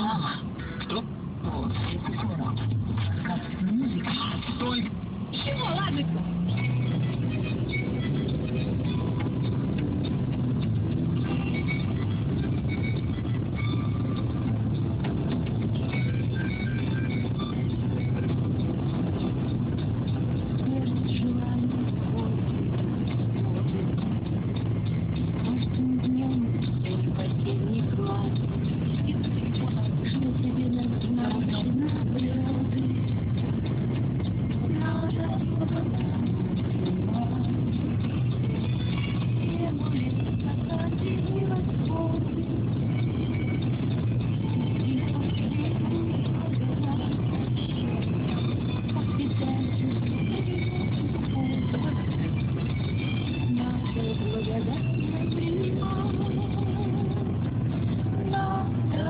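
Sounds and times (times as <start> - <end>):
car road and engine rumble: 0.0 - 59.0
faint car radio: 0.0 - 59.0.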